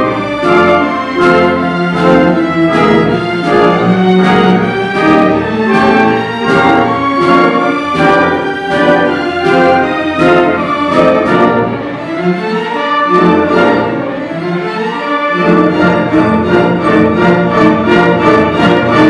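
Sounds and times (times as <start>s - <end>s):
orchestra playing a waltz: 0.0s - 19.0s.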